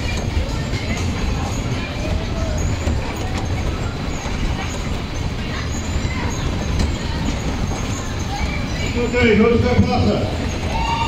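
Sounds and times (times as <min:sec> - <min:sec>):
fairground ride rumble and rattle: 0:00.0 - 0:11.0.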